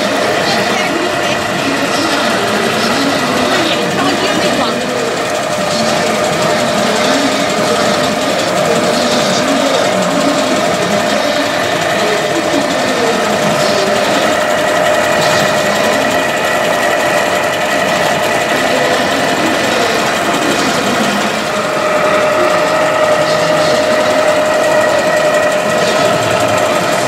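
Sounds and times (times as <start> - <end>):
model machine clattering: 0.0 - 27.0
steady mechanical whine: 0.0 - 27.0.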